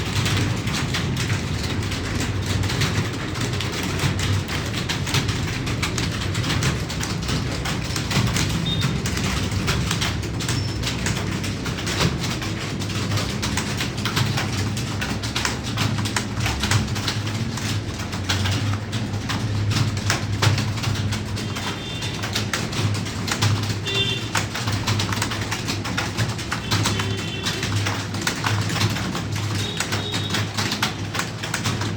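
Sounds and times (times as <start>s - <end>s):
keyboards clattering: 0.0s - 31.9s.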